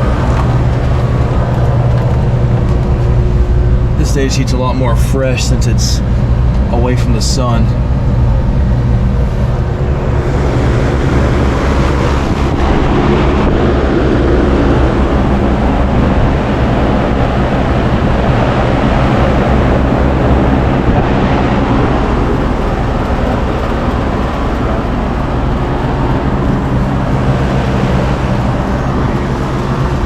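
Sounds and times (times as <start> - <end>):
air conditioning unit running: 0.0 - 30.0.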